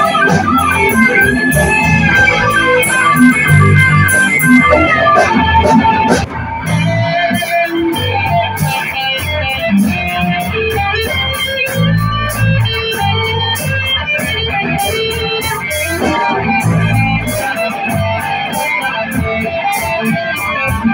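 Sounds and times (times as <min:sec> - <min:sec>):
bass guitar: 0:00.0 - 0:20.9
drums: 0:00.0 - 0:20.9
electric guitars: 0:00.0 - 0:20.9.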